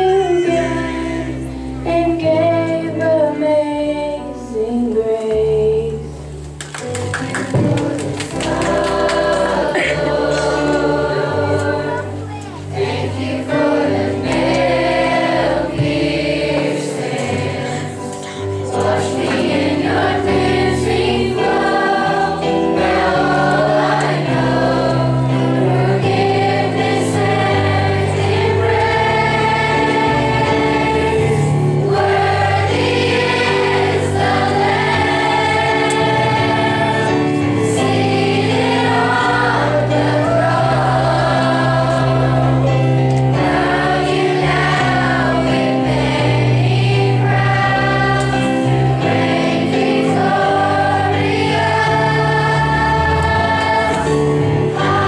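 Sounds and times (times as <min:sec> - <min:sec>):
children's choir singing: 0:00.0 - 0:06.1, 0:07.2 - 0:55.0.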